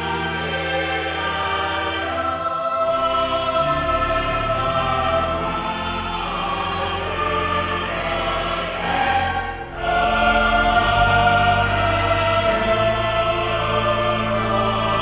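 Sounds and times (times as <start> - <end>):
choir singing held notes: 0.0 - 15.0
sustained low accompaniment: 0.0 - 15.0.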